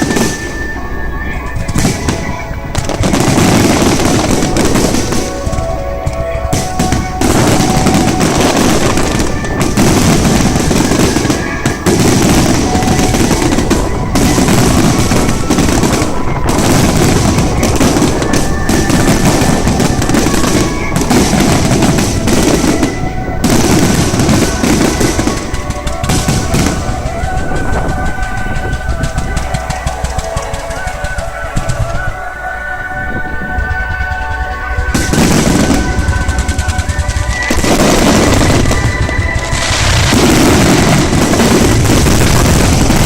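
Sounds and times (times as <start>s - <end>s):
fireworks bangs and crackling: 0.0s - 43.0s
music: 0.0s - 43.0s.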